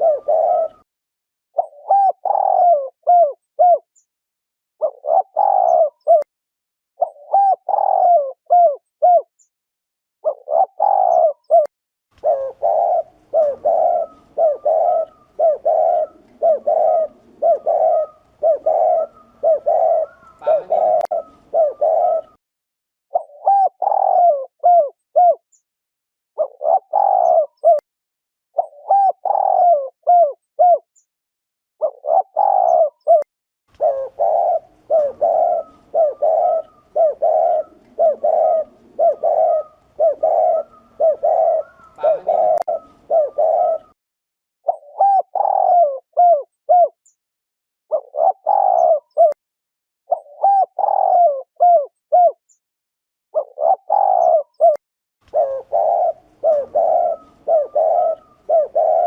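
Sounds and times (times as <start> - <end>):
dove cooing: 0.0 - 0.8, 1.6 - 3.8, 4.8 - 6.3, 7.0 - 9.3, 10.2 - 22.4, 23.1 - 25.4, 26.4 - 27.8, 28.6 - 30.8, 31.8 - 44.0, 44.7 - 47.0, 47.9 - 49.4, 50.1 - 52.4, 53.4 - 59.0.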